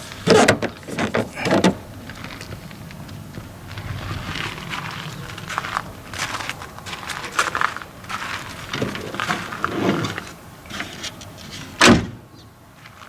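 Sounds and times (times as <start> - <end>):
rustling: 0.0 - 11.8.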